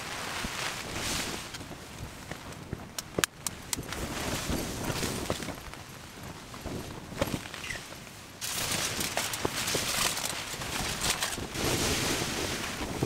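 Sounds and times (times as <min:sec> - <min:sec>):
wind hiss: 0:00.0 - 0:13.0.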